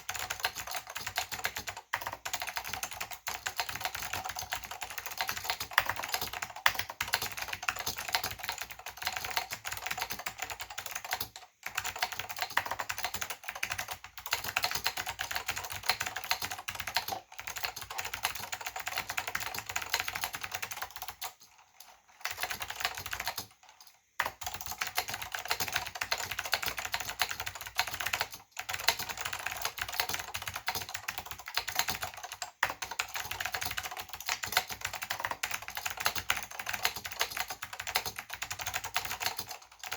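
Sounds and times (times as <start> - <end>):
clicky keyboard typing: 0.0 - 39.9.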